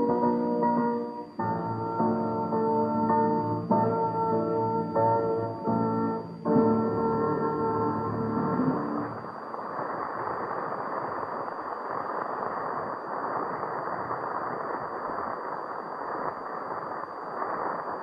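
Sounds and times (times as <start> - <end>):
disc surface noise hiss: 0.0 - 18.0.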